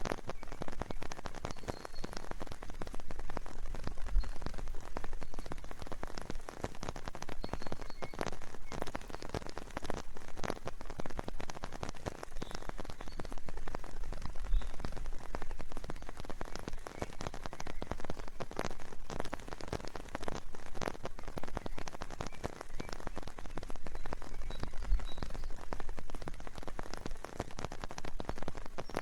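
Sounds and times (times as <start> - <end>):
raindrops falling in forest: 0.0 - 29.0.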